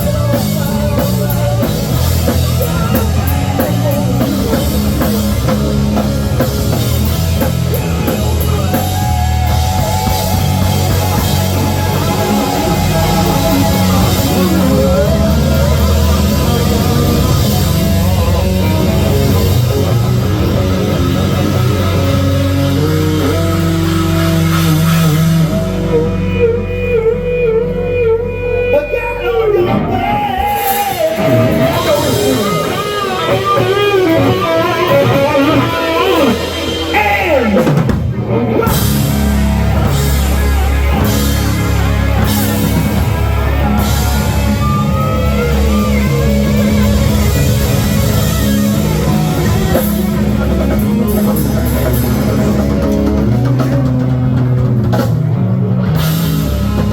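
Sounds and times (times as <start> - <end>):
rock band playing: 0.0 - 56.9
electric guitar sliding glides: 1.4 - 56.9.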